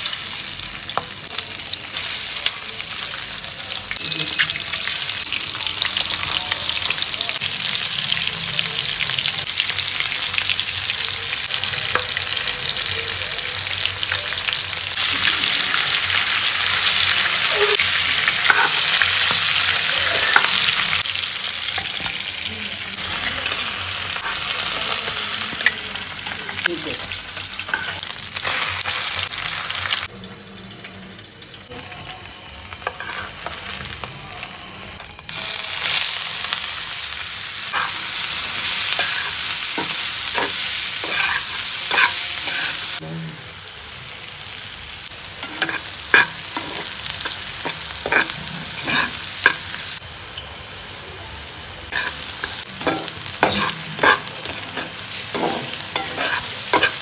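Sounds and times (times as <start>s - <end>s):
oil sizzling in a pan: 0.0s - 57.0s.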